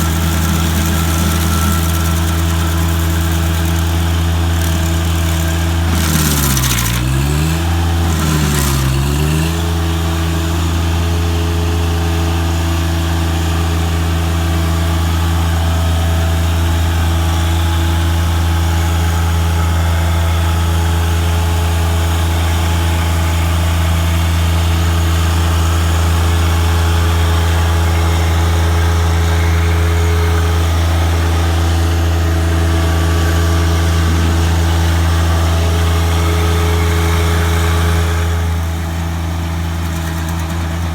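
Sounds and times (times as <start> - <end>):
stump grinder engine running: 0.0 - 40.9.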